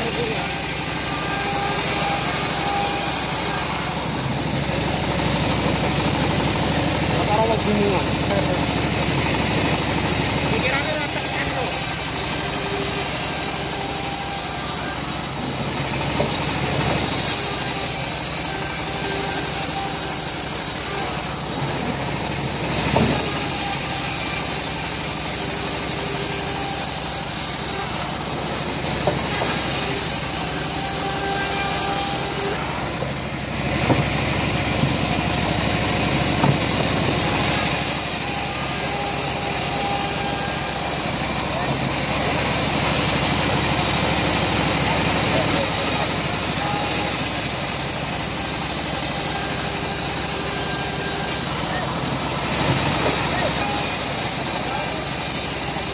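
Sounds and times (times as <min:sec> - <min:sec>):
bandsaw cutting wood: 0:00.0 - 0:55.9.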